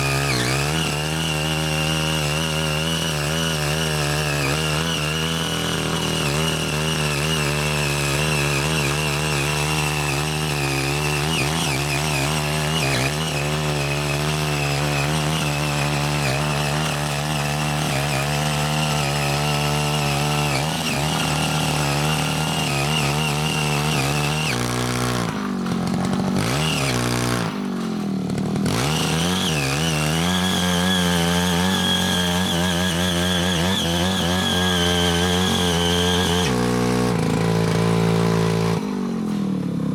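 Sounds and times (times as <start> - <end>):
tiller engine running under load: 0.0 - 39.9.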